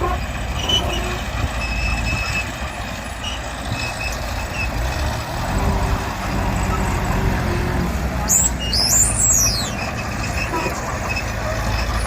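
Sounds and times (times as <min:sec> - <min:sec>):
diesel machinery rumbling: 0:00.0 - 0:12.0.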